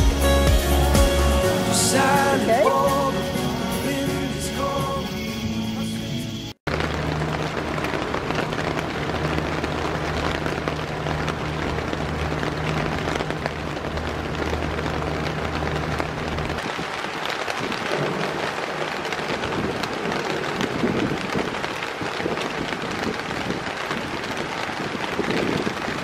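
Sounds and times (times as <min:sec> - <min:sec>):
heavy rain on a tent: 0:00.0 - 0:05.0, 0:06.6 - 0:26.0.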